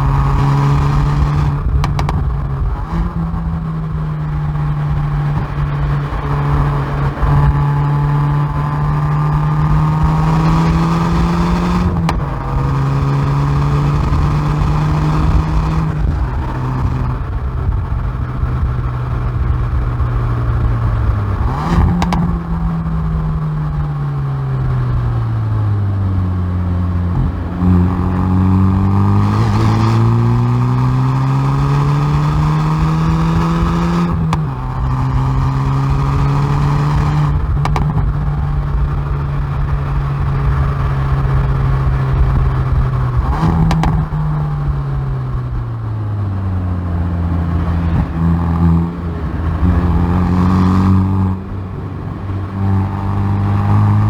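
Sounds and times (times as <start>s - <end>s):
car exhaust revving: 0.0s - 54.0s
exhaust cracks at gear changes: 0.0s - 54.0s.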